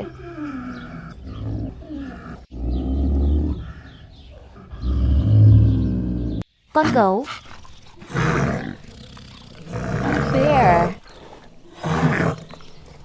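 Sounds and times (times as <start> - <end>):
leopard roaring: 0.0 - 13.0.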